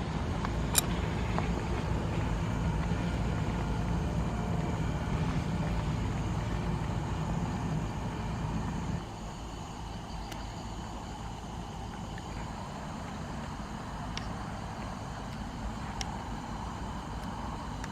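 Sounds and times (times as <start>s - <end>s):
low mechanical hum: 0.0s - 17.9s.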